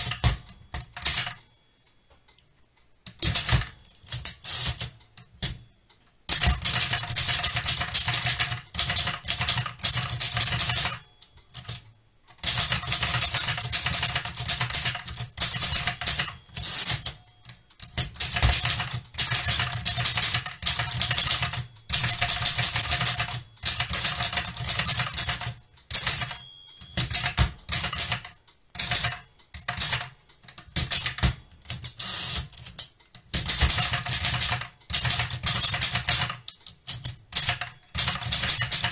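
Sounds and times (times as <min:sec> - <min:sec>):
typewriter key clacks: 0:06.3 - 0:17.2, 0:17.8 - 0:38.9.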